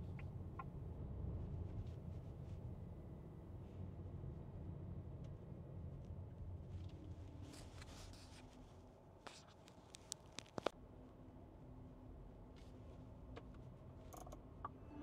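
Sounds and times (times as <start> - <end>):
faint road rumble: 0.0 - 15.0.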